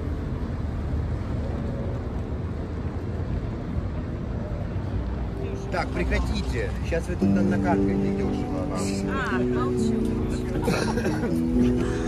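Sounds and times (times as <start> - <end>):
city street noise: 0.0 - 12.0.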